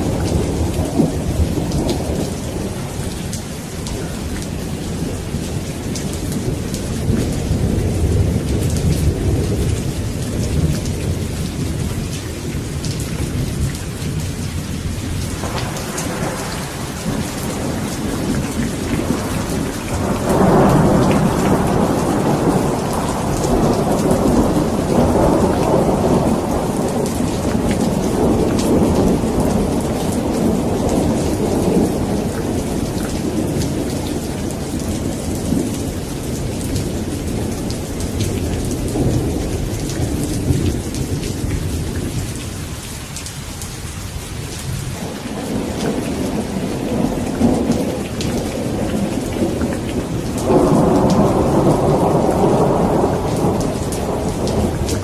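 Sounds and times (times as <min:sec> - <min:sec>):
rolling thunder: 0:00.0 - 0:42.7, 0:44.6 - 0:55.0
steady rain falling: 0:00.0 - 0:55.0.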